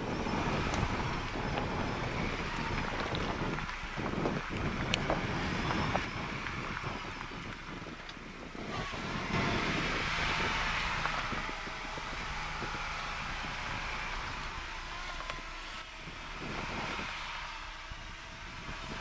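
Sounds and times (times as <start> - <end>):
vehicle engine at low revs: 0.0 - 19.0
wind noise on microphone: 0.0 - 19.0.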